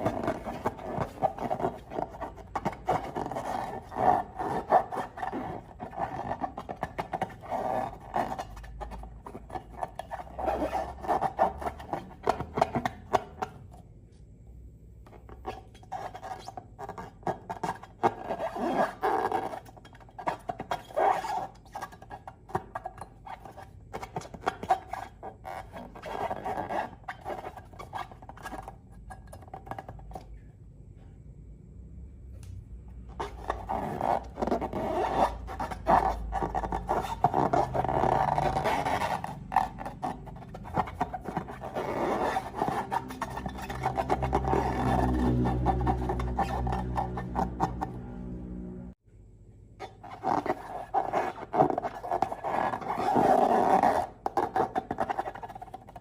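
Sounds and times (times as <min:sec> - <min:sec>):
rubber balloon squeaks: 0:00.0 - 0:13.7, 0:15.2 - 0:30.2, 0:33.0 - 0:48.2, 0:49.8 - 0:56.0.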